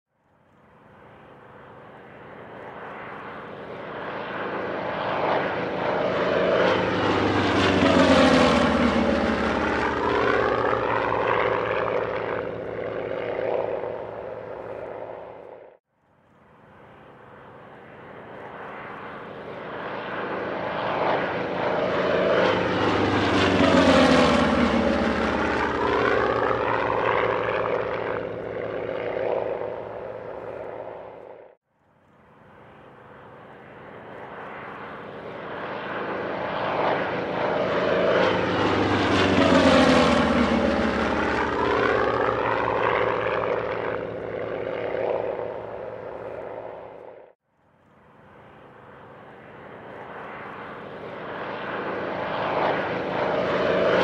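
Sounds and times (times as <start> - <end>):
propeller planes flying past: 0.2 - 54.0.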